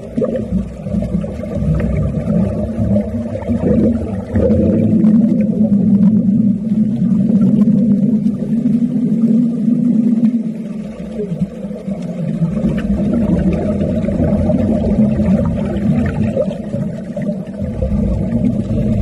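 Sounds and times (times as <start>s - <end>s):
muffled underwater welding rumble: 0.0s - 19.0s.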